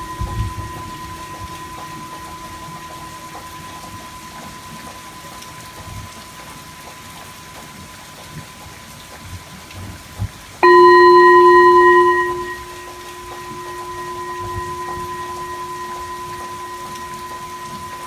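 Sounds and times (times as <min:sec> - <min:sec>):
metal sound bowl struck ringing: 0:00.0 - 0:08.4, 0:10.6 - 0:18.0
faint ringing tone: 0:00.0 - 0:08.9, 0:10.6 - 0:18.0
soft rain-like hiss: 0:00.0 - 0:18.0.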